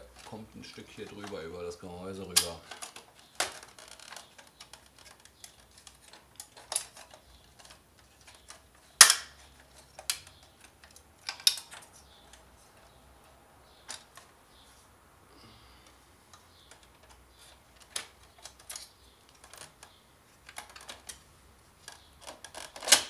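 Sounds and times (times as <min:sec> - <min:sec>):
plastic parts clicking and knocking: 0:00.0 - 0:01.6, 0:02.2 - 0:13.0, 0:13.8 - 0:14.4, 0:15.8 - 0:23.0.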